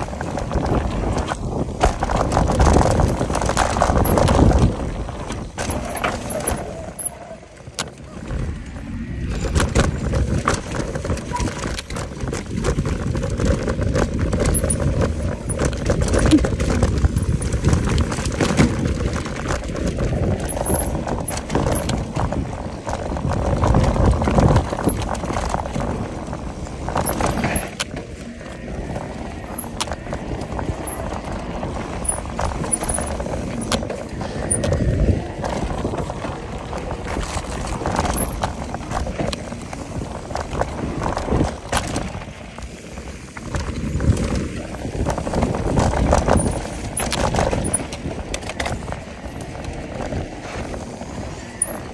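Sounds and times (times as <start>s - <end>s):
bike rattling over bumps: 0.0s - 51.9s
tyres crunching over dirt: 0.0s - 51.9s
wind rushing over microphone: 0.0s - 51.9s.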